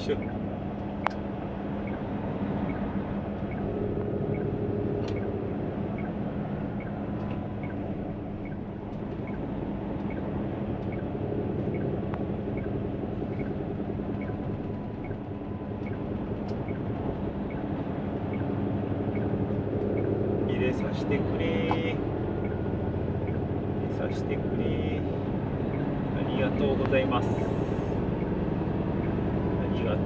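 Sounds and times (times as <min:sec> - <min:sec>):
diesel truck engine running: 0:00.0 - 0:30.0
turn signal ticking: 0:00.0 - 0:30.0.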